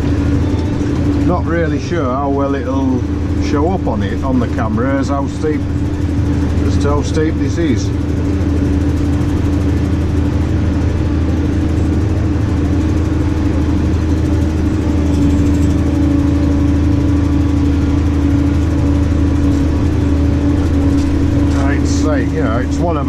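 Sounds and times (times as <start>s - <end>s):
steady humming tone: 0.0s - 23.0s
tractor diesel engine running: 0.0s - 23.0s.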